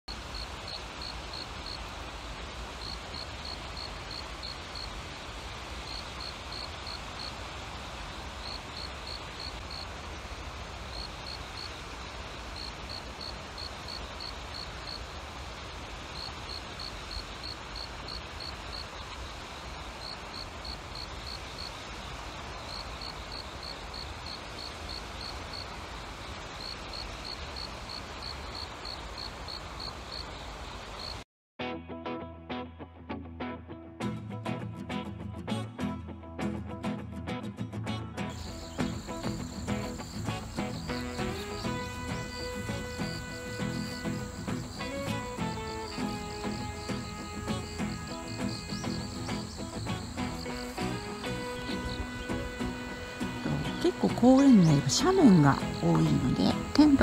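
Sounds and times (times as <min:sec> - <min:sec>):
cricket chirping: 0:00.1 - 0:10.0, 0:10.9 - 0:15.1, 0:15.9 - 0:31.2, 0:38.3 - 0:57.0
outdoor background hiss: 0:00.1 - 0:31.2, 0:38.2 - 0:57.0.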